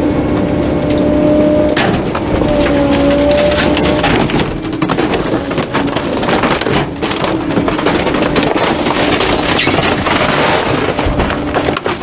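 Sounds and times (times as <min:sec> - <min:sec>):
hydraulic packer running: 0:00.0 - 0:12.0
wood cracking and knocking: 0:01.7 - 0:12.0.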